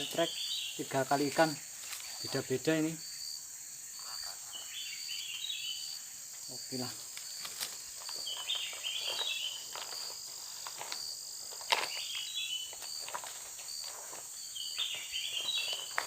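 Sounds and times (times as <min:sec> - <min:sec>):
crickets and insects chorus: 0:00.0 - 0:16.0.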